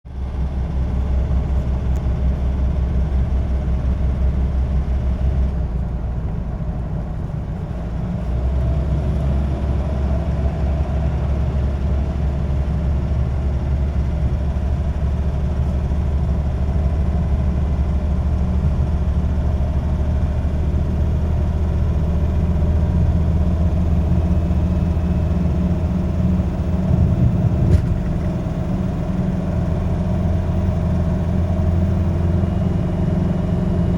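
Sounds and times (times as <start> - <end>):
engine running: 0.1 - 33.9.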